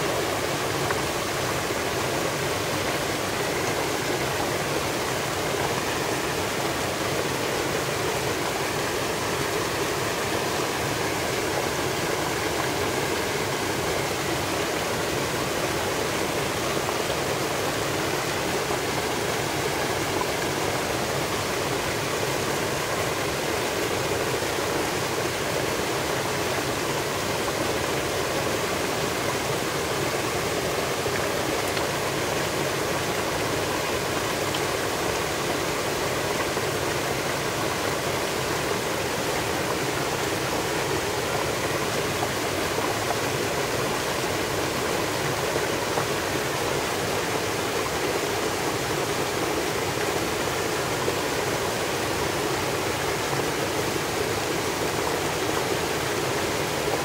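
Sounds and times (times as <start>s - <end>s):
waterfall splashing over boulders: 0.0s - 57.0s.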